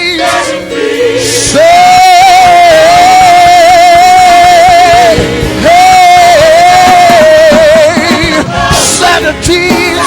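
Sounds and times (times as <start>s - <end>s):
gospel accompanying music: 0.0s - 10.0s.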